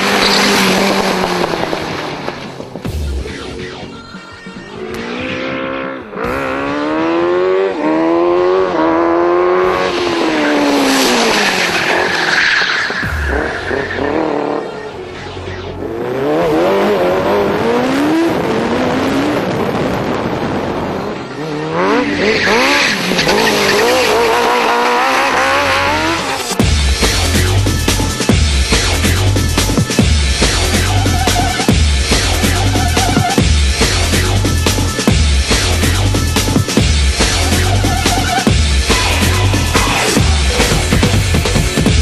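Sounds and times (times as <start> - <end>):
motorcycle engine revving: 0.0 - 2.7, 4.8 - 12.1, 15.6 - 42.0.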